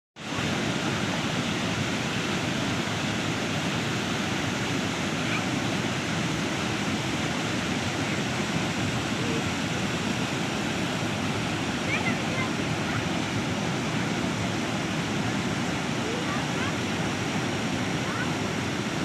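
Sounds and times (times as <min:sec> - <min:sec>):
fast-flowing water rushing: 0:00.2 - 0:19.0.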